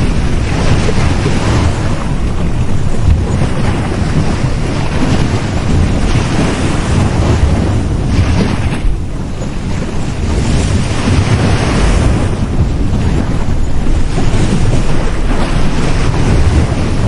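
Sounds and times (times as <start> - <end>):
waves breaking on a beach: 0.0 - 17.0
wind rumble on microphone: 0.0 - 17.0.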